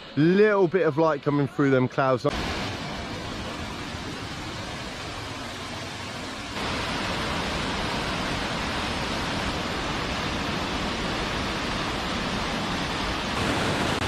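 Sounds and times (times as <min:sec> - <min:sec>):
waterfall rushing: 0:02.3 - 0:14.0.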